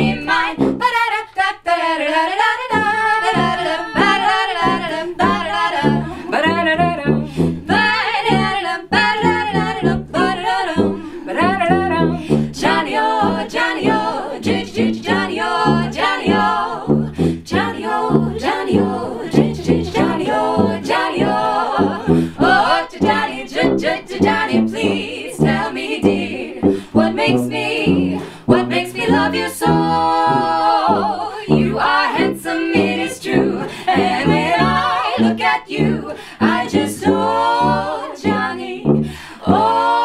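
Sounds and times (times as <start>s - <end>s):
low instrument notes: 0.0s - 0.9s, 2.7s - 40.0s
women singing close harmony: 0.0s - 40.0s.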